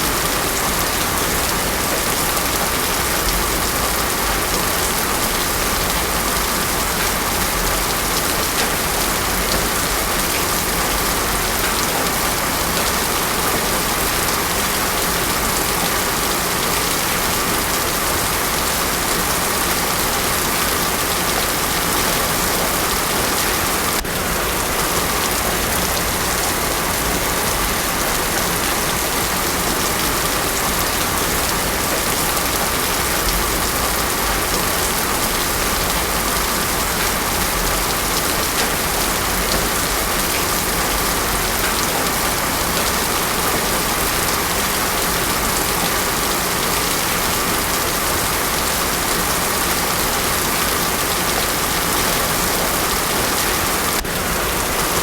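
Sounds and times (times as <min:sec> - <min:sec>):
heavy rain on road: 0:00.0 - 0:55.0.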